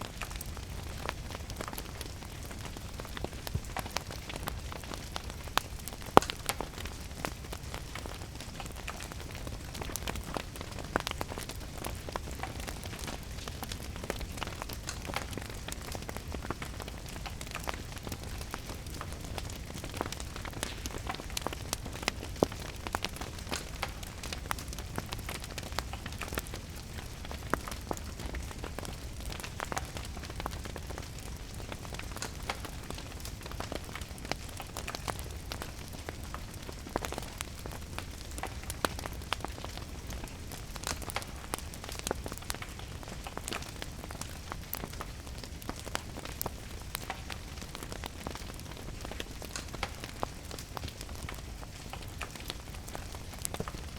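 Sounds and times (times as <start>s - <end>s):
rain falling: 0.0s - 53.9s
wood fire crackling: 0.0s - 53.9s.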